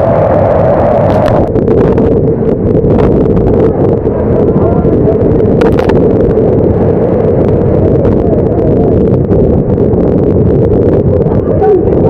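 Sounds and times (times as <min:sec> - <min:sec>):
heavy seas breaking over deck: 0:00.0 - 0:12.0
storm wind buffeting microphone: 0:00.0 - 0:12.0.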